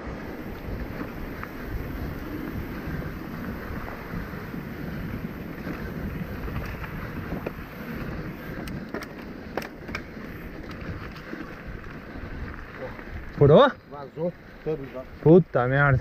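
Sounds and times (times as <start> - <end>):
wind on microphone: 0.0 - 13.5
bike clicks and rattles: 0.0 - 16.0
tyres on dirt: 0.0 - 16.0.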